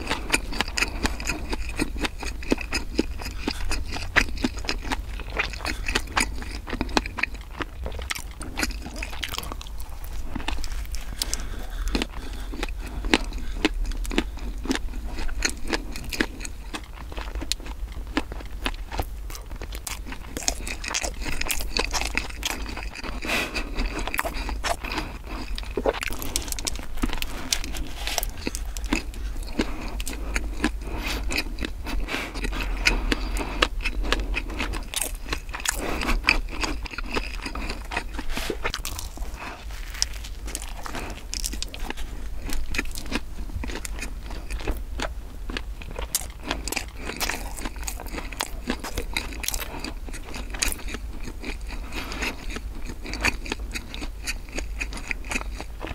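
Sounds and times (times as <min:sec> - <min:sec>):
bite into bread: 0:00.0 - 0:55.9
chewing bread: 0:00.0 - 0:55.9.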